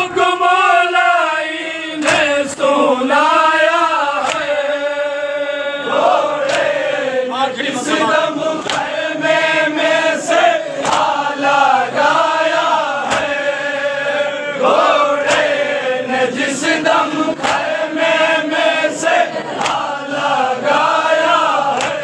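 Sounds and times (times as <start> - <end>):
men chanting a lament in unison: 0.0 - 22.0.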